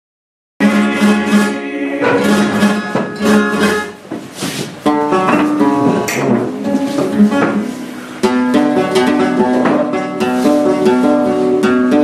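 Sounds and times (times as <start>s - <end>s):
flamenco guitar playing: 0.6s - 12.0s.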